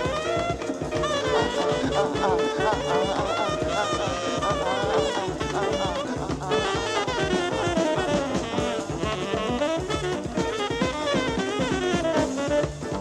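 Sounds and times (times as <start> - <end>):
drum kit beat: 0.0 - 13.0
saxophone horn line: 0.0 - 13.0.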